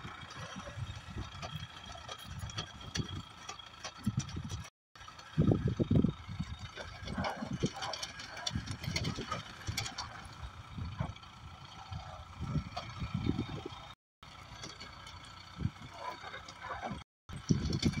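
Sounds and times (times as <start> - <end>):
wind buffeting microphone: 0.0 - 3.4, 4.0 - 4.7, 5.3 - 14.0, 15.5 - 18.0
crane diesel engine running: 0.0 - 18.0.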